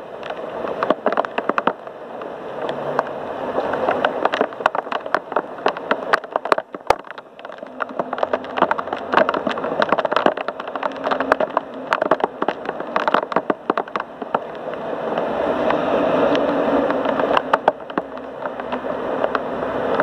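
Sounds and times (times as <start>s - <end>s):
heavy rain pouring: 0.0s - 20.0s
sharp drips and splats: 0.0s - 20.0s.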